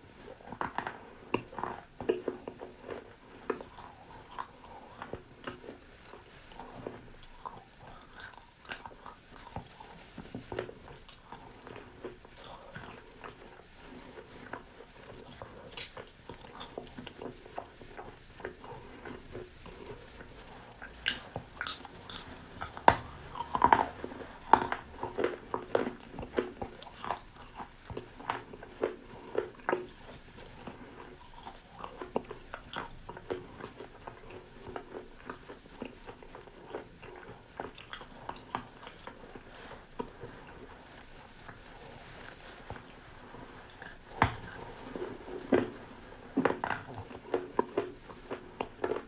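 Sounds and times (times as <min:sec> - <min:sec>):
dog chewing crunchy food: 0:00.0 - 0:49.0.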